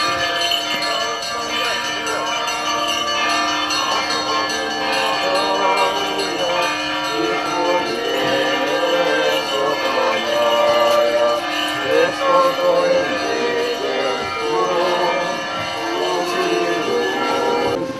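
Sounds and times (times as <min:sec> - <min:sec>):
church bells ringing: 0:00.0 - 0:17.9
voices: 0:00.0 - 0:17.9.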